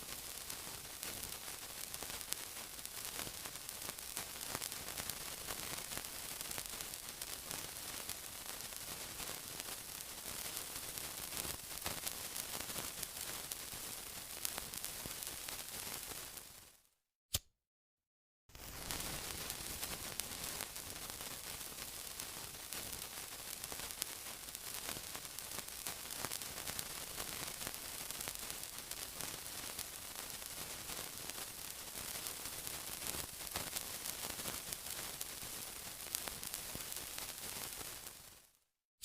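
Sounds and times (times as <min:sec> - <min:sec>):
sizzling hiss with crackles: 0:00.0 - 0:16.9, 0:18.5 - 0:38.6.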